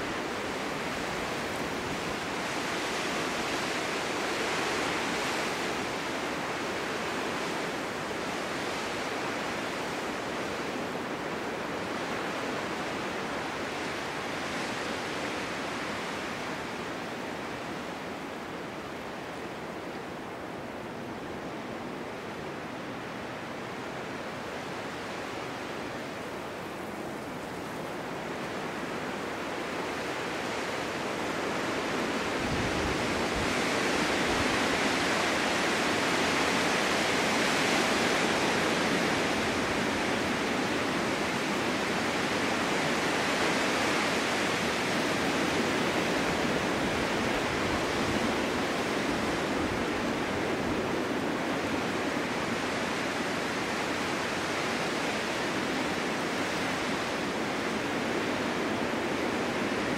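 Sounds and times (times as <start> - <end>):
wind rushing through forest: 0.0 - 59.9.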